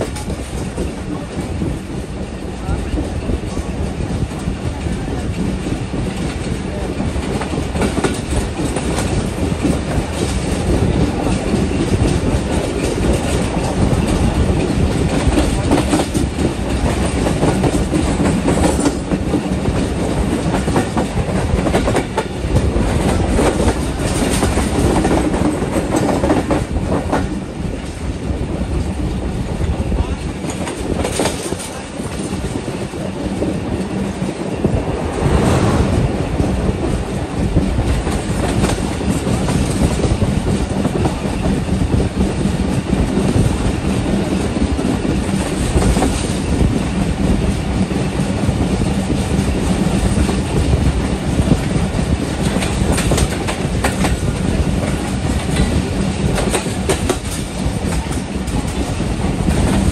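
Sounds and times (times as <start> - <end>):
clickety-clack over rail joints: 0.0 - 35.0, 36.4 - 59.9
train wheels rumbling on rails: 0.0 - 59.9.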